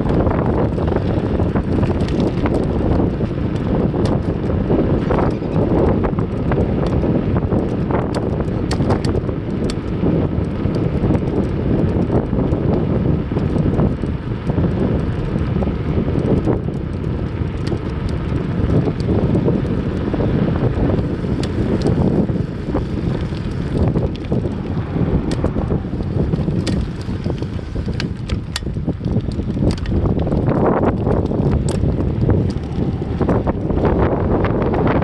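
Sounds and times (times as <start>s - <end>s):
light ticks and rattles: 0.0s - 35.0s
wind buffeting microphone: 0.0s - 35.0s.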